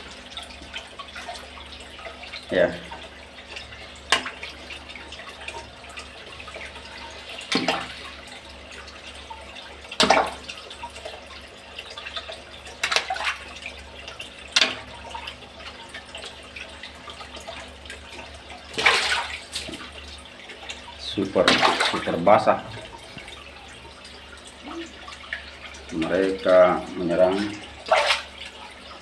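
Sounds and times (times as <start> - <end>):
fish splashing at water surface: 0.0 - 25.9, 27.3 - 29.0.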